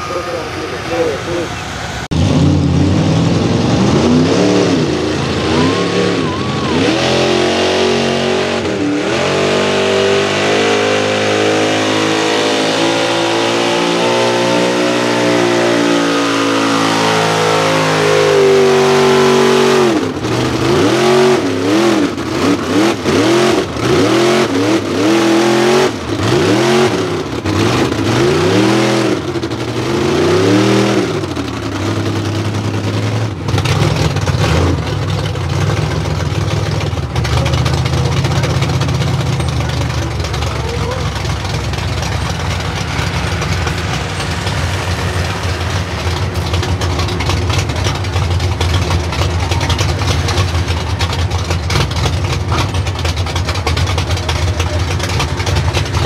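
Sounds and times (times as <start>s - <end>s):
truck engine at full throttle: 0.0s - 56.0s.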